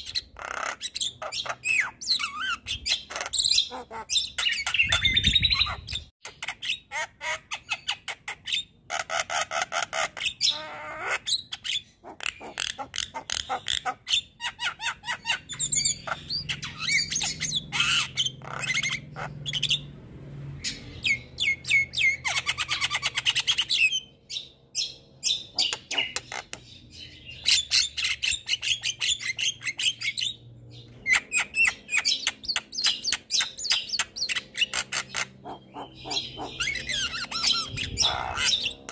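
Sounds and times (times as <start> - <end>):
bird chattering and squawking: 0.0 - 19.9, 20.6 - 38.9.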